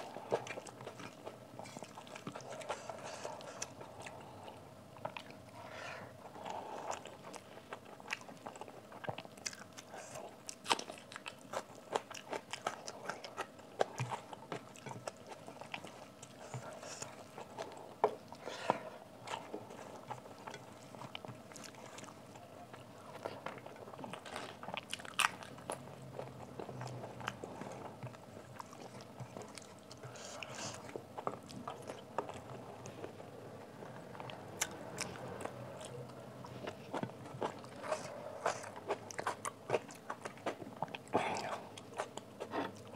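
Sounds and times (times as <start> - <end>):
person chewing food: 0.0 - 42.9.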